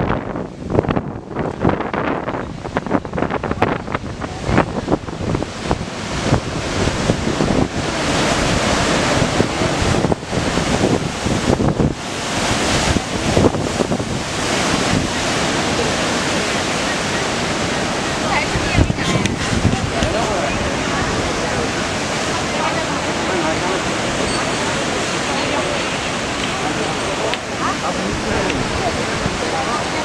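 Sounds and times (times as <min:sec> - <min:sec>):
ocean waves breaking on shore: 0:00.0 - 0:30.0
wind buffeting microphone: 0:00.0 - 0:30.0.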